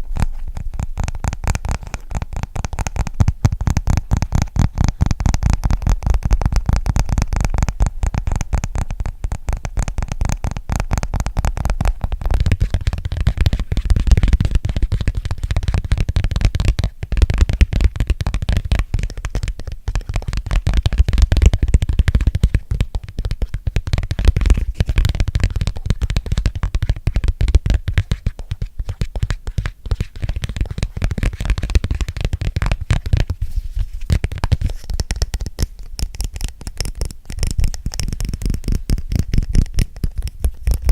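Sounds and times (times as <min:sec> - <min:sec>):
fingernail tapping on microphone: 0:00.0 - 0:40.9.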